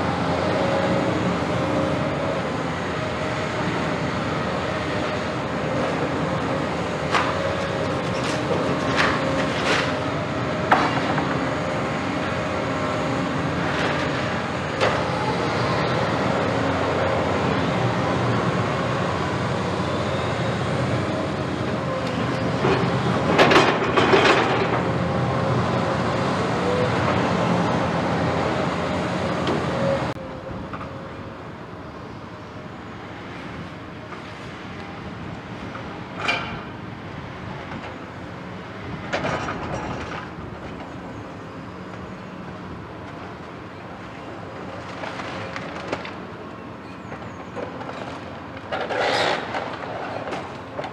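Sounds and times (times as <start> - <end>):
excavator engine and hydraulic whine: 0.0 - 50.9.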